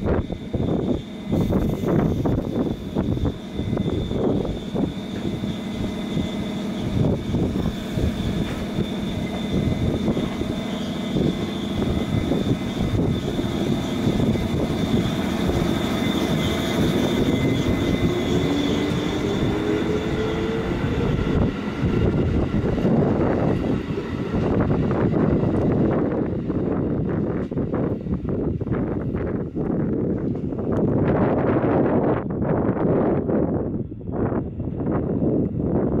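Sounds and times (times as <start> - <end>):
train wheels rumbling on rails: 0.0 - 36.0
traction motor whine rising: 0.1 - 31.2.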